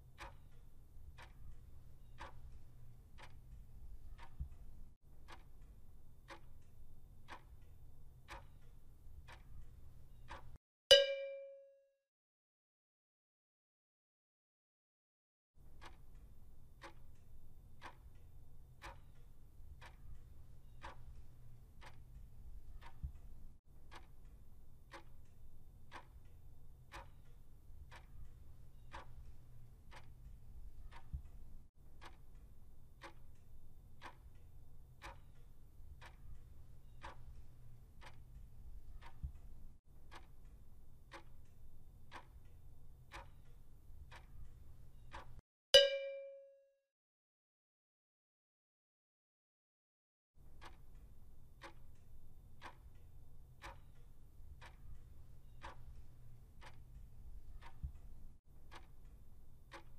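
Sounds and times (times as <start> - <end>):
clock ticking: 0.0 - 11.7, 15.6 - 46.4, 50.4 - 59.9.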